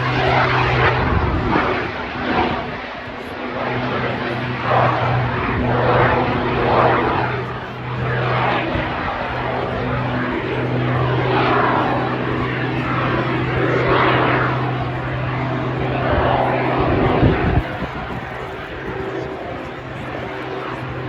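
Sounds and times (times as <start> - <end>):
propeller aircraft engine: 0.0 - 21.0.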